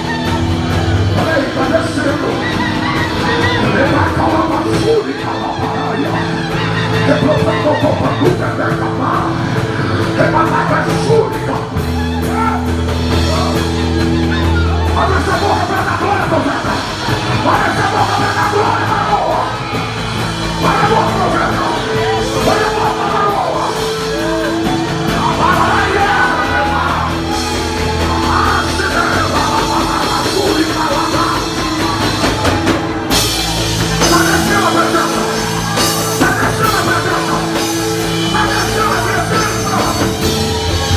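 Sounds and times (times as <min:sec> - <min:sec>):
sustained chords over deep bass: 0:00.0 - 0:40.9
voices singing and calling out: 0:00.0 - 0:40.9.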